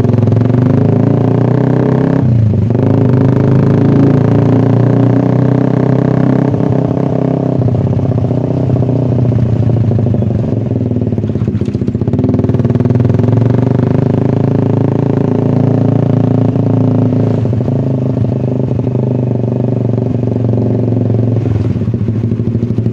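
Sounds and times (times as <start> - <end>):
motorcycle engine exhaust note: 0.0 - 22.9.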